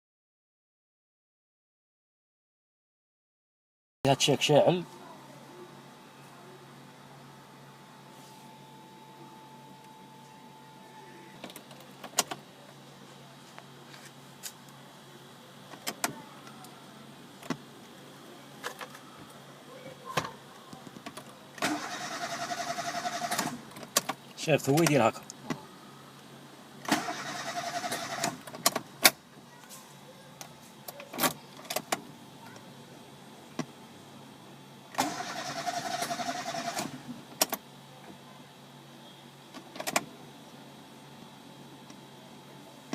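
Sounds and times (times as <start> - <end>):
faint steady hum: 4.1 - 42.9.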